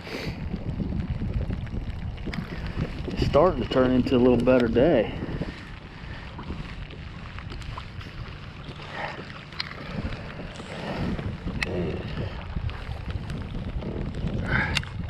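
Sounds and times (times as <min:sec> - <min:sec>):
water lapping around kayak: 0:00.0 - 0:15.0
wind buffeting microphone: 0:00.0 - 0:15.0.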